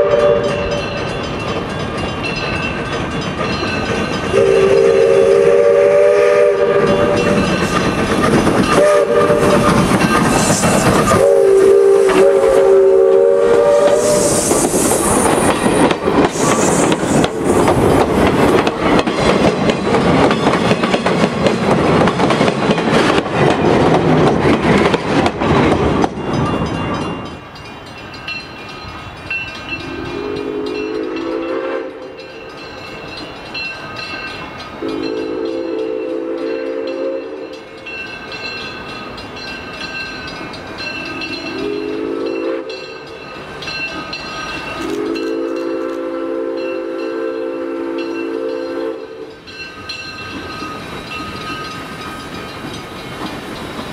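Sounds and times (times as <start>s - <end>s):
crossing bell ringing: 0.0s - 16.0s, 25.6s - 53.9s
steam locomotive chime whistle: 0.0s - 17.6s, 26.3s - 53.9s
railroad cars rumbling on rails: 0.0s - 53.9s.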